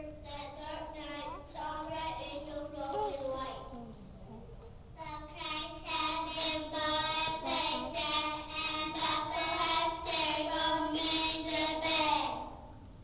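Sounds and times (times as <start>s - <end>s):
child singing: 0.3s - 3.7s, 5.0s - 12.5s.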